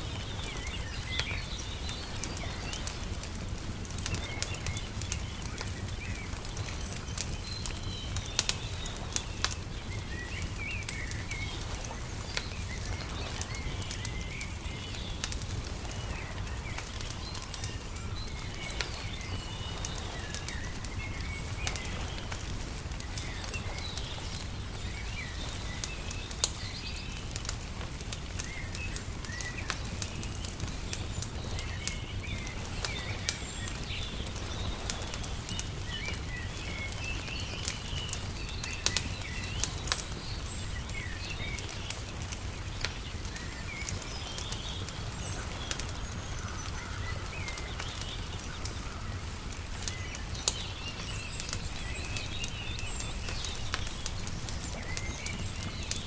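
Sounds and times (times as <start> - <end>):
small birds chirping: 0.0 - 56.0
wood fire crackling and popping: 0.0 - 56.0.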